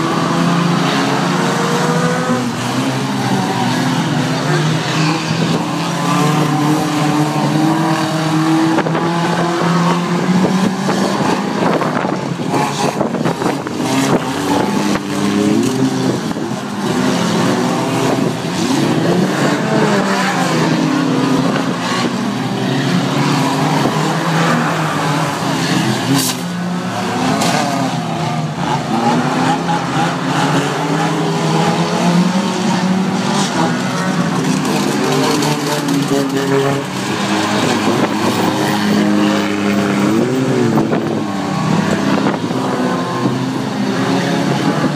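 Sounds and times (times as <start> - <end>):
racing car engines revving: 0.0 - 44.9.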